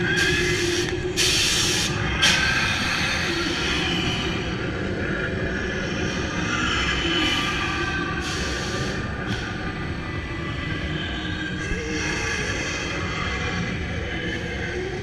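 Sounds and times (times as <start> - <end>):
ride vehicle rumbling on track: 0.0 - 15.0.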